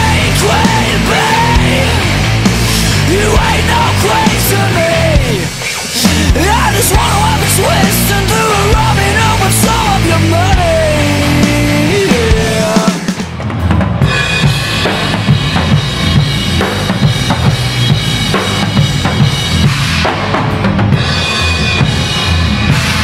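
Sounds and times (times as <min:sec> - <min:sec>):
drum kit kick and snare hits: 0:00.0 - 0:23.0
rock band playing loudly: 0:00.0 - 0:23.0.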